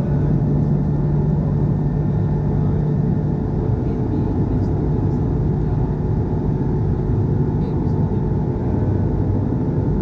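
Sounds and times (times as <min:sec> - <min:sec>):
aircraft cabin engine drone: 0:00.0 - 0:10.0.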